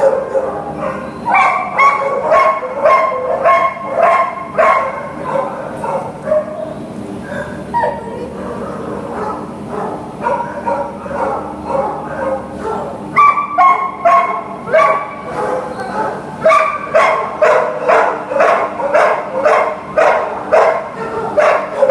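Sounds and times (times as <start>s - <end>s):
dog barking: 0.0s - 21.9s.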